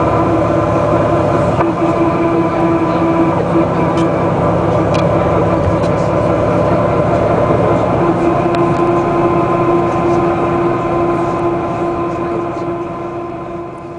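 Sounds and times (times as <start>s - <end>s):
bus engine running: 0.0s - 13.9s
steady whine: 0.0s - 13.9s.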